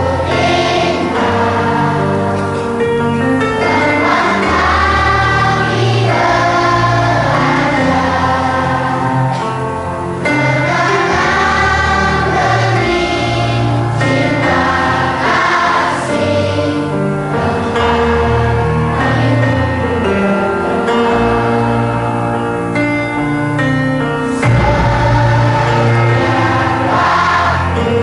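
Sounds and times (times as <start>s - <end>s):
group singing in chorus: 0.0s - 9.6s, 10.2s - 22.4s, 24.2s - 28.0s
instrumental accompaniment: 0.0s - 28.0s.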